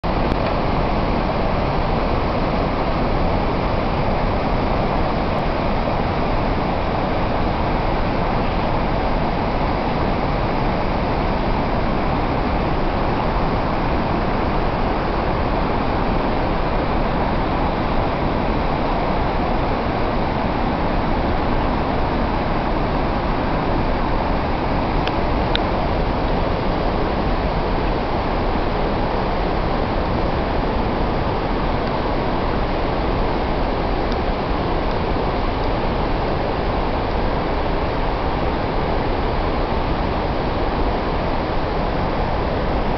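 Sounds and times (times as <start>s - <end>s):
waterfall roaring: 0.0s - 42.9s.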